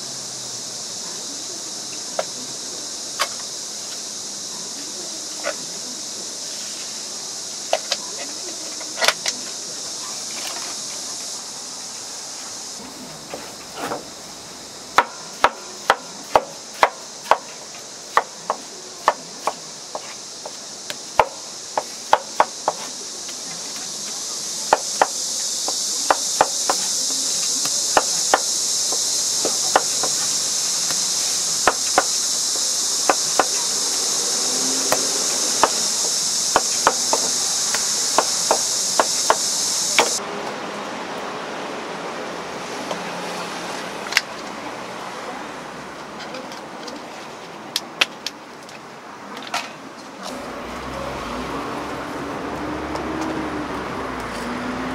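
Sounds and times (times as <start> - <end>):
high-pitched hiss: 0.0 - 54.9.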